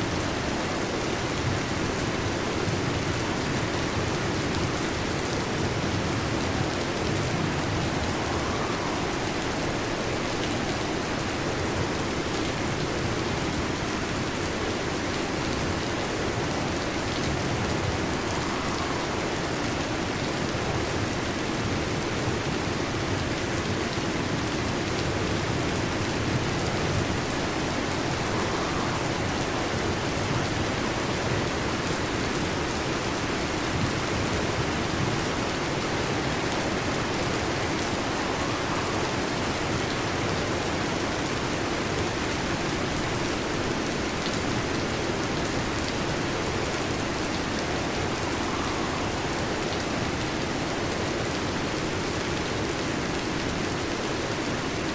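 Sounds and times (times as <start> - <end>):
heavy rain on a metal roof: 0.0 - 54.9.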